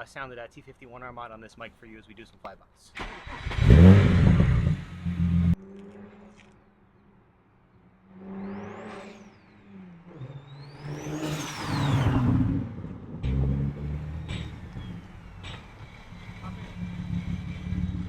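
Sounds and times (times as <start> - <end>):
car engine accelerating: 3.0 - 18.0.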